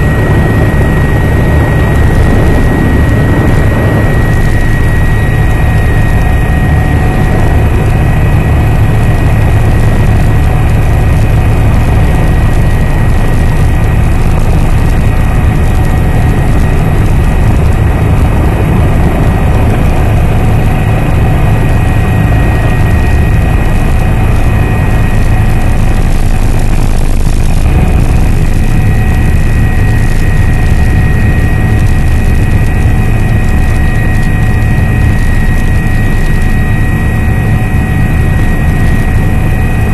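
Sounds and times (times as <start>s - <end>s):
helicopter rotor and turbine drone: 0.0s - 39.9s
high turbine whine: 0.0s - 39.9s.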